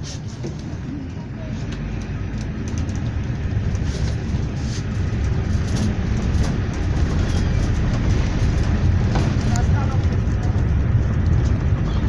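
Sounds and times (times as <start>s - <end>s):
engine and road rumble: 0.0s - 12.0s
light clicks and rattles: 0.4s - 12.0s.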